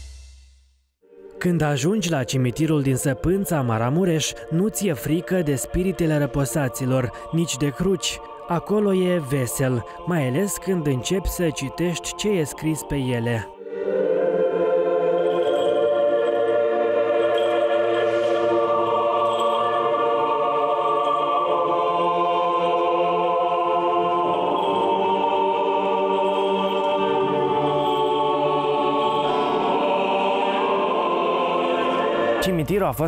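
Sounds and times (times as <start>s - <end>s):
choir singing slow chords: 1.0s - 32.7s.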